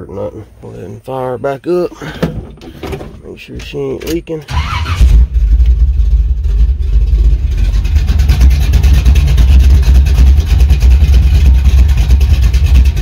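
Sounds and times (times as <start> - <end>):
car engine idling: 2.0 - 13.0.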